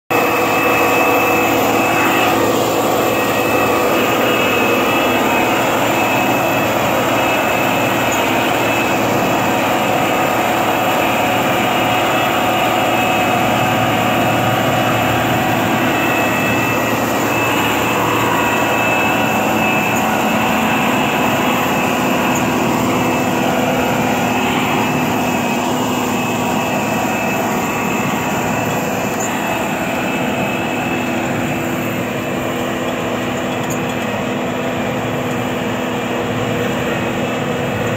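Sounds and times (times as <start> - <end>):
trencher mechanical drone: 0.1 - 37.9.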